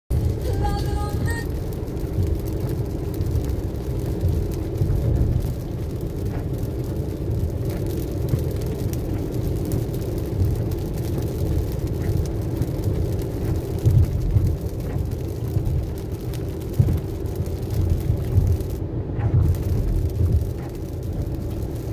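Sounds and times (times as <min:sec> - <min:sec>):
car driving on wet road: 0:00.1 - 0:21.9.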